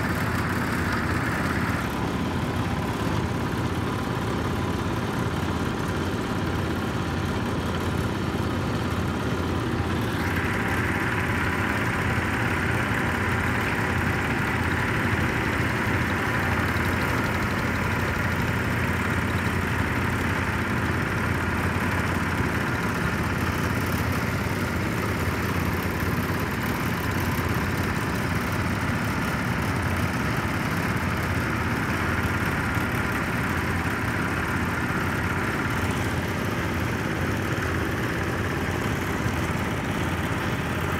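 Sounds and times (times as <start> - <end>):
garden tractor engines running: 0.0 - 40.9.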